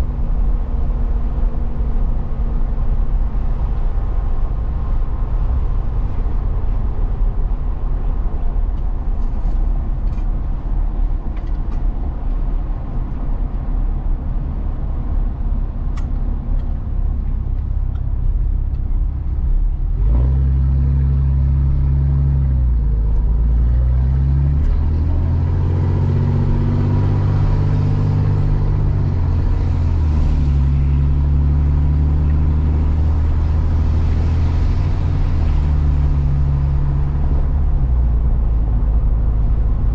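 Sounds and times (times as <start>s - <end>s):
road rumble: 0.0s - 39.9s
truck engine: 0.0s - 39.9s.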